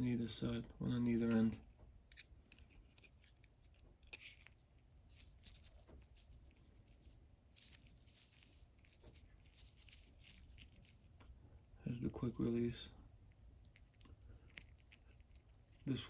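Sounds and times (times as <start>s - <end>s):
faint scratches of small metal parts: 1.0s - 11.4s, 13.3s - 16.0s.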